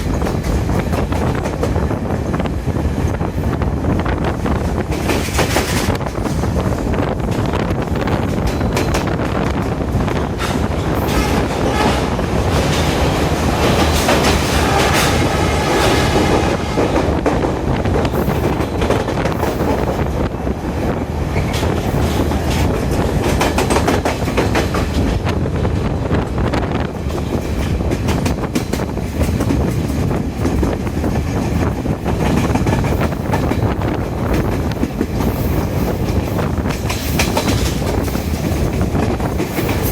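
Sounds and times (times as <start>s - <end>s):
train wheels rumbling on rails: 0.0s - 39.9s
wheels clicking over rail joints: 4.6s - 20.1s, 21.3s - 25.3s, 27.0s - 39.9s.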